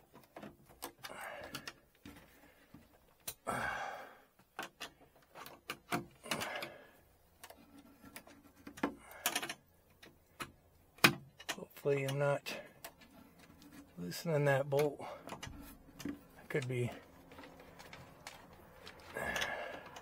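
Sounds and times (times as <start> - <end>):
wiring rustling: 0.0 - 3.5, 4.4 - 20.0.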